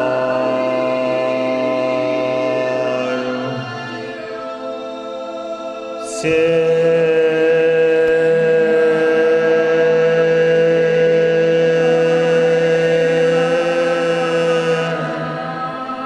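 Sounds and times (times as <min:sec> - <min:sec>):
group of voices chanting: 0:00.0 - 0:16.0.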